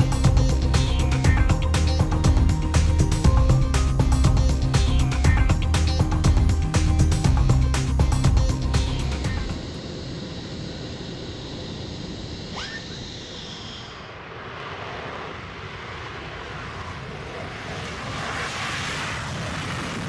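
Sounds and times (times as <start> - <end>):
jet engines whining: 0.0 - 20.0
jet takeoff with afterburners: 0.0 - 20.0.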